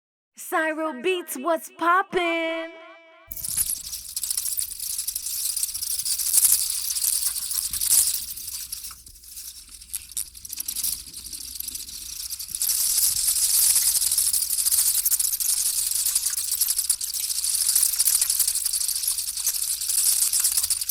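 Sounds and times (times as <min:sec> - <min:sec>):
bats screeching and chittering: 0:03.3 - 0:20.9.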